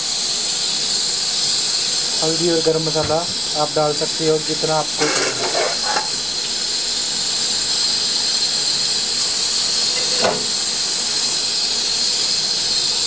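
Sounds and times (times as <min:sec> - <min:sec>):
pressure cooker hissing: 0:00.0 - 0:13.0.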